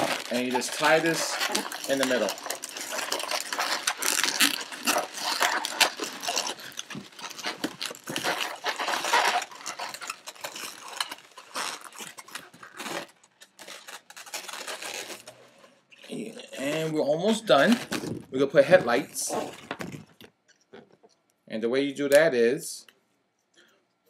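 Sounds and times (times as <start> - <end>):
balloons squeaking and rubbing: 0.0 - 21.1.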